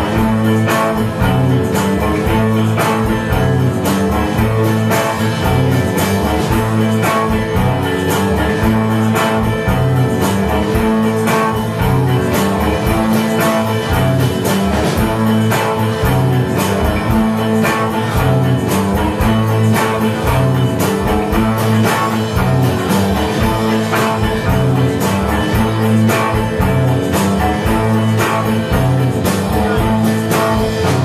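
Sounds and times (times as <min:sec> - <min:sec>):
drum kit beat: 0:00.0 - 0:31.0
electric guitars: 0:00.0 - 0:31.0.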